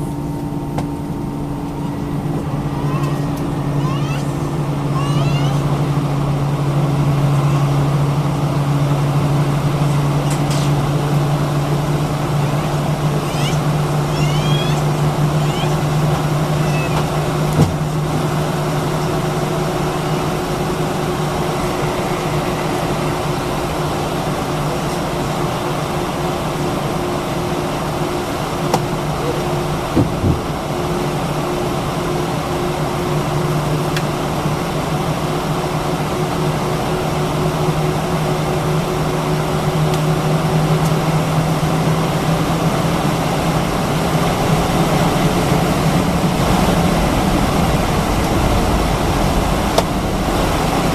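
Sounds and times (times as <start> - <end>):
air-conditioning airflow: 0.0 - 50.9
aircraft cabin hum: 0.0 - 50.9.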